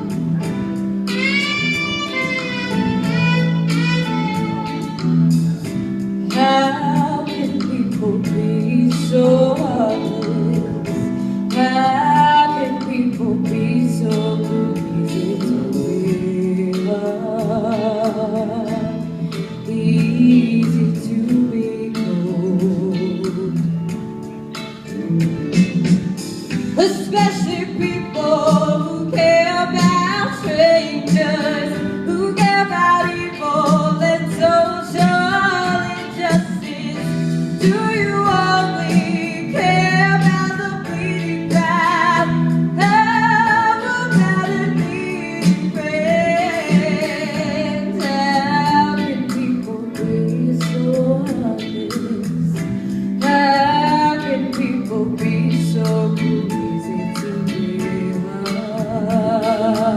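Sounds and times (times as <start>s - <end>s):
person singing: 0.0s - 24.0s, 24.6s - 59.9s
band playing: 0.0s - 59.9s.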